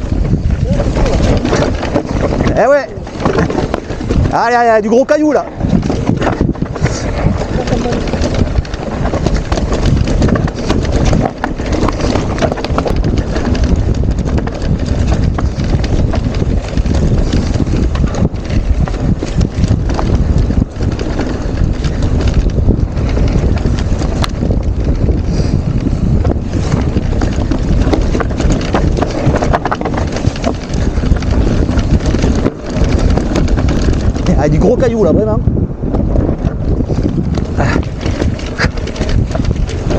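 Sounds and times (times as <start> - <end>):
bike clattering over rocks: 0.0 - 39.9
wind buffeting microphone: 0.0 - 39.9.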